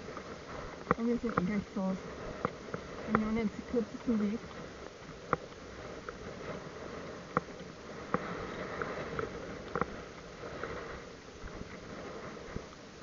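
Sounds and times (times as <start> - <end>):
rushing wind: 0.0 - 13.0.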